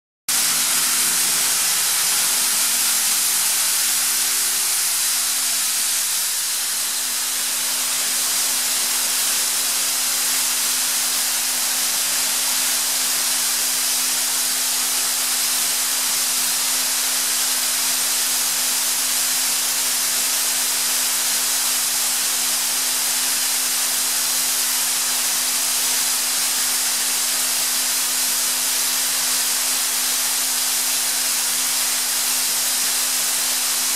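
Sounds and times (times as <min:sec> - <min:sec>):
air compressor hissing and humming: 0:00.3 - 0:33.9.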